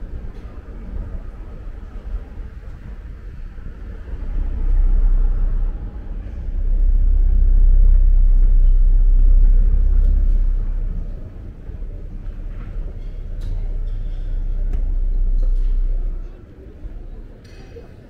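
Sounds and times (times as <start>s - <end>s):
deep low rumble: 0.0s - 17.4s.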